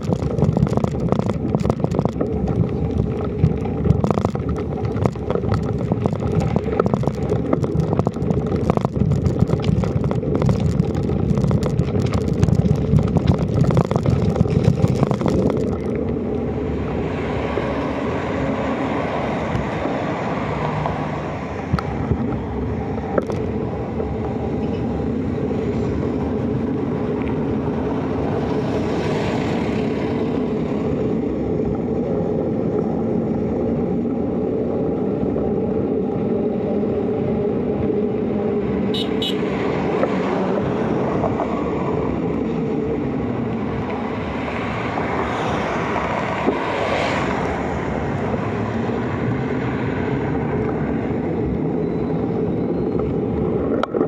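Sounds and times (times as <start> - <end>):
road and wind rumble: 0.0 - 54.0
vehicles passing: 0.0 - 54.0.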